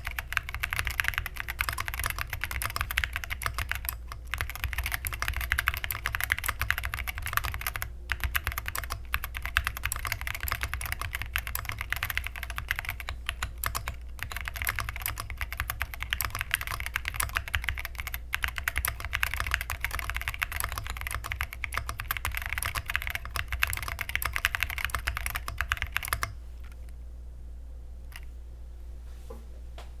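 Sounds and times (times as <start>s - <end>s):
fast typing on mechanical keyboard: 0.0s - 26.8s
steady low hum: 0.0s - 30.0s.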